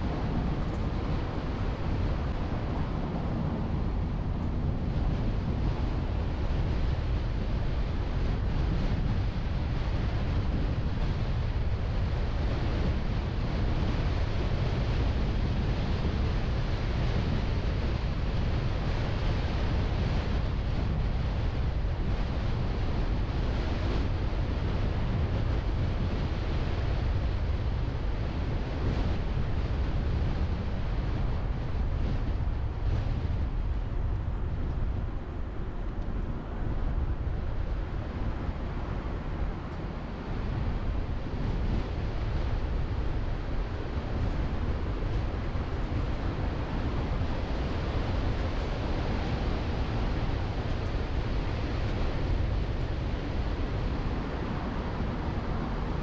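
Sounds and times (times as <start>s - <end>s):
car driving on road: 0.0s - 56.0s
wind noise on microphone: 0.0s - 56.0s.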